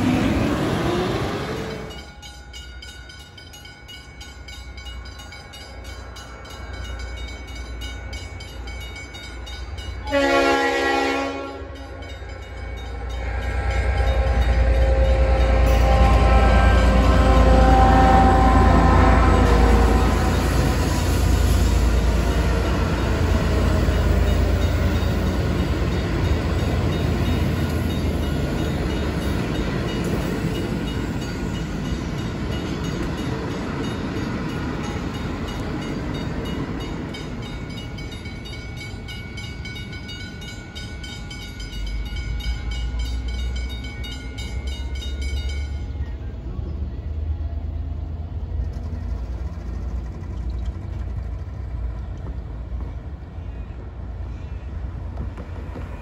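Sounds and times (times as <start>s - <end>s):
crossing bell ringing: 0.0s - 46.4s
train carriages rumbling over rails: 0.0s - 56.0s.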